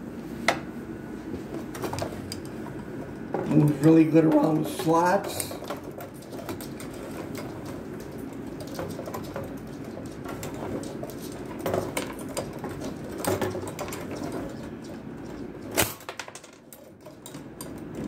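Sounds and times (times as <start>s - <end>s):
table hockey rods rattling: 1.8s - 18.0s.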